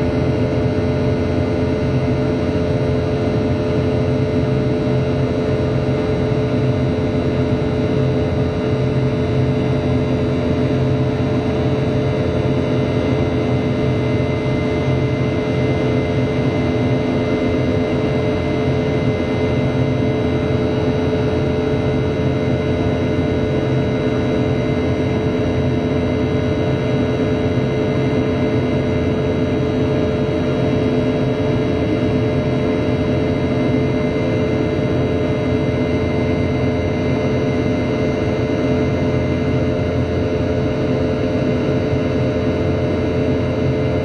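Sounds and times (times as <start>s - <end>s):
jet engine droning: 0.0s - 44.0s.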